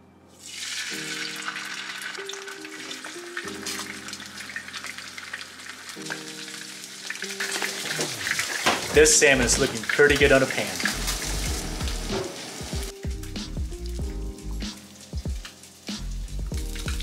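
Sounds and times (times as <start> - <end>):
fish fillets sizzling in hot oil: 0.4 - 17.0.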